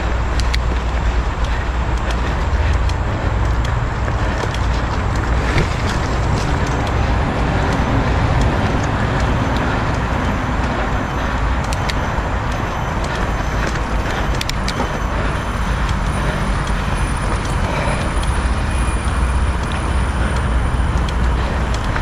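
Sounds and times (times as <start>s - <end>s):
bike clicks and rattles: 0.0s - 22.0s
tyres on dirt: 0.0s - 22.0s
wind rumble: 0.0s - 22.0s.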